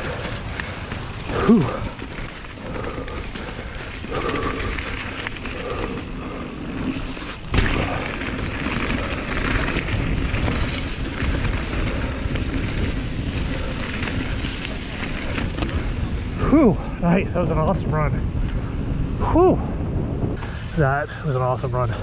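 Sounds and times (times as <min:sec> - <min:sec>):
tyre and wind noise: 0:00.0 - 0:22.0.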